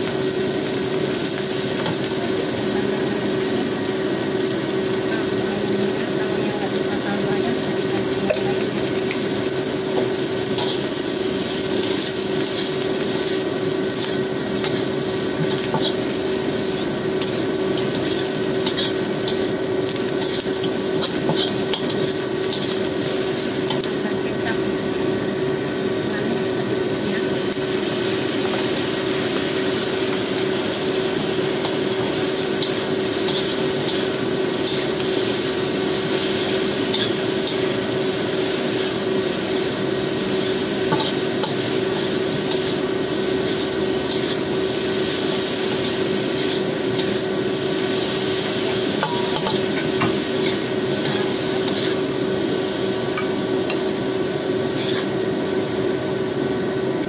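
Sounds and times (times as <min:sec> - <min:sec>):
food sizzling in a wok: 0:00.0 - 0:57.0
steady hum: 0:01.4 - 0:57.0.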